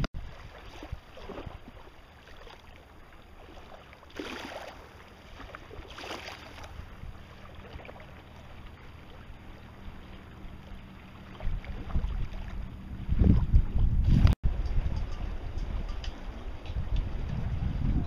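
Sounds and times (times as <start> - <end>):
water rushing at lakeshore: 0.0 - 18.0
wind: 0.0 - 18.0.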